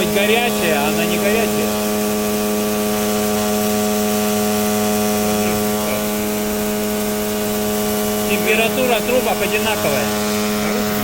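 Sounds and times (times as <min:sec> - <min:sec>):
compressor humming: 0:00.0 - 0:11.0.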